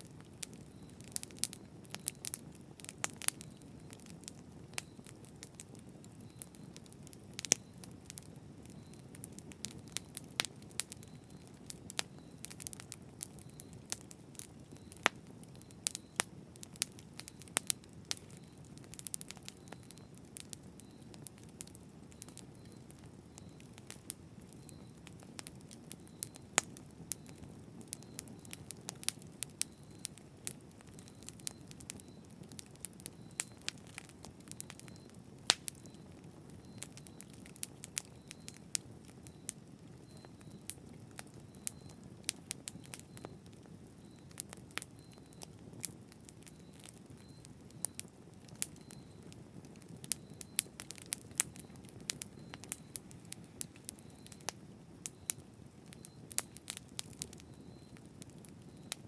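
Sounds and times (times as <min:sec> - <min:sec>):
fire crackles and pops: 0:00.0 - 0:59.0.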